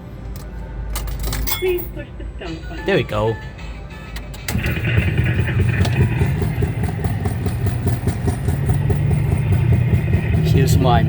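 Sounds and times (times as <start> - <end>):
kiddie ride motor rumble and whine: 1.8 - 11.0.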